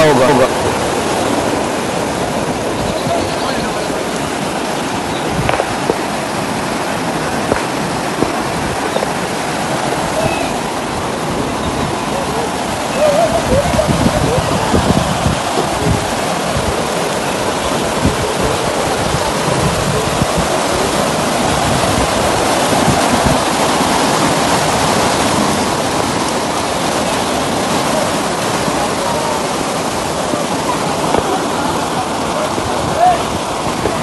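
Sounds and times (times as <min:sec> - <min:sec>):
water rushing through outlet: 0:00.0 - 0:34.0.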